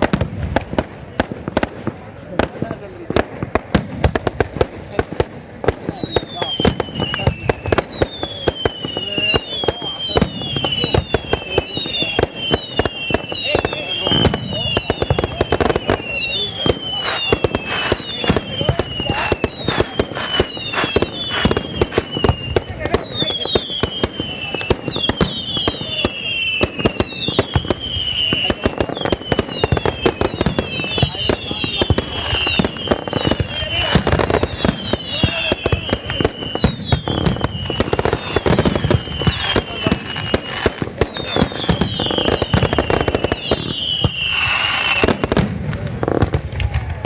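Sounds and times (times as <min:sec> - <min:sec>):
fireworks bangs and crackles: 0:00.0 - 0:47.0
whistles falling in pitch: 0:05.8 - 0:45.2.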